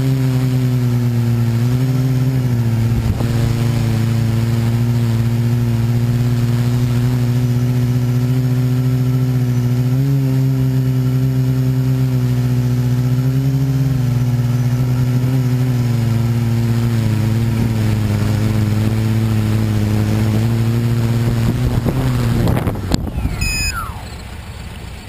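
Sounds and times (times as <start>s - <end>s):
engine winding down whine: 0.0s - 25.0s
vehicle engine running: 0.0s - 25.0s.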